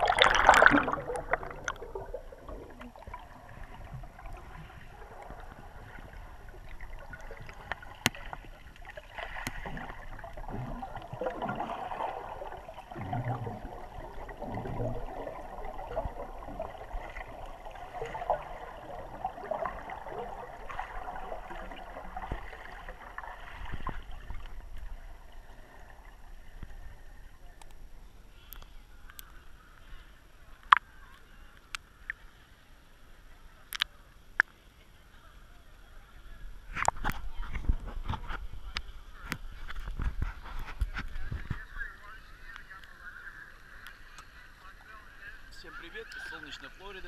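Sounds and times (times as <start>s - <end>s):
water sloshing underwater: 0.0s - 47.0s.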